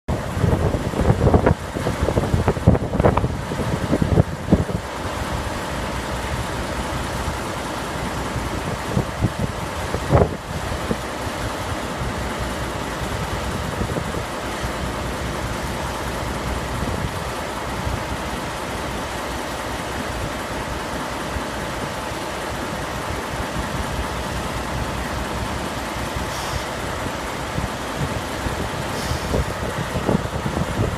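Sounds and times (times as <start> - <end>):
wind buffeting microphone: 0.1 - 20.5, 22.6 - 30.9.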